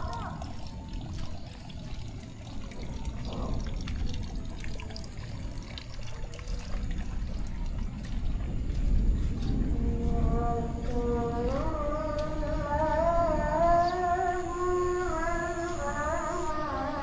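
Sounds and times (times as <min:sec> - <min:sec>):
rainwater trickling: 0:00.0 - 0:17.0.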